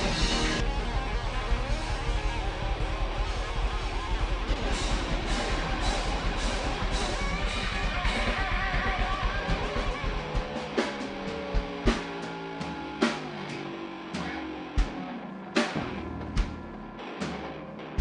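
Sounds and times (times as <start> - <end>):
distorted electric guitar: 0.0 - 18.0
drum kit: 0.0 - 18.0.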